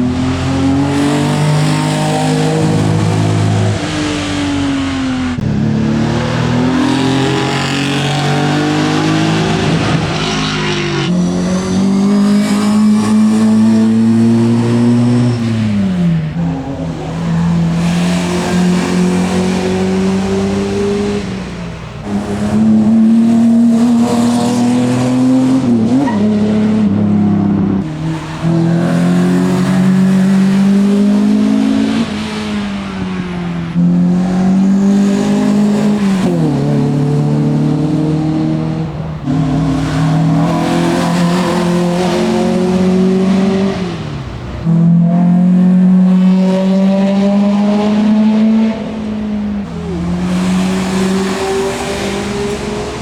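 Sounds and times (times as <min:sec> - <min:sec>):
racing car engine shifting gears: 0:00.0 - 0:53.0.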